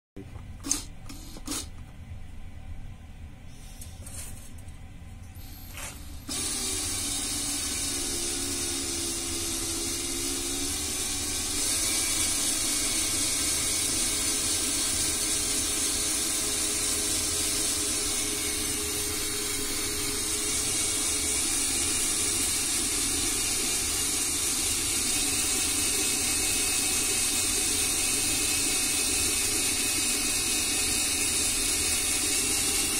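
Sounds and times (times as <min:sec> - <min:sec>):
cordless drill motor running: 0:00.6 - 0:01.7, 0:06.2 - 0:32.9.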